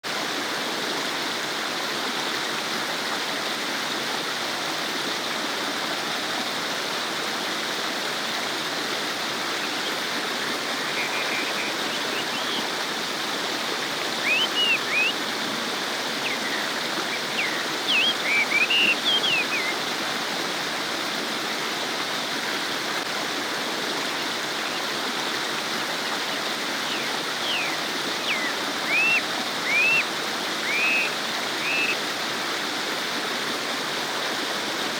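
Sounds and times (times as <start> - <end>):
stream babbling over rocks: 0.3 - 34.9.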